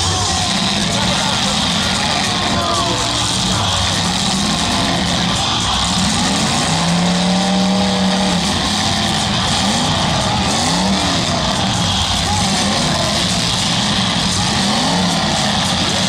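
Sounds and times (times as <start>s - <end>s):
car engines revving hard: 0.0s - 16.0s
cars shoving against each other: 0.0s - 16.0s.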